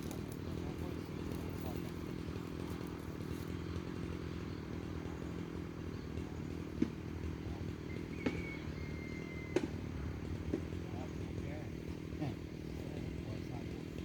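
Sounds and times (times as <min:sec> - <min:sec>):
chainsaw engine idling: 0:00.0 - 0:14.0.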